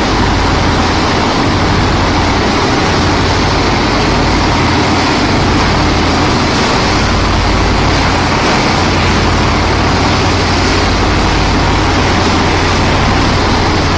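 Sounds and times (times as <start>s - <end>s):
continuous washing noise: 0.0s - 13.9s
machine motor humming: 0.0s - 13.9s.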